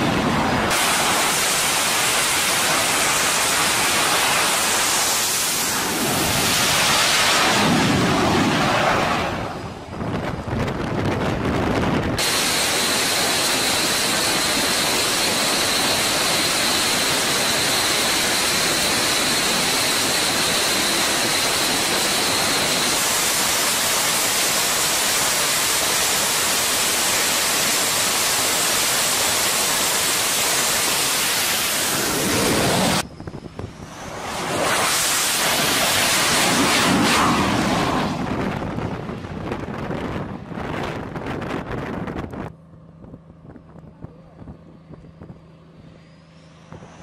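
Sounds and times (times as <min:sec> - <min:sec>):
jet engines running with whine: 0:00.0 - 0:47.0.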